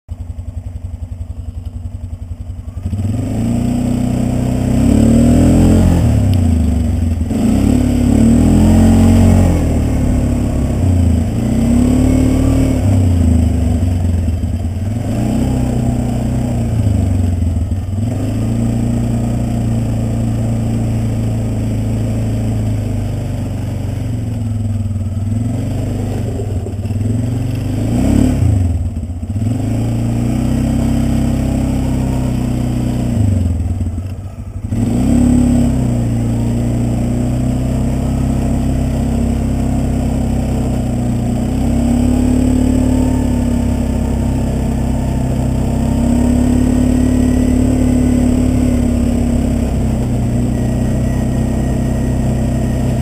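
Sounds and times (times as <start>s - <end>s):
atv engine revving: 0.1s - 53.0s.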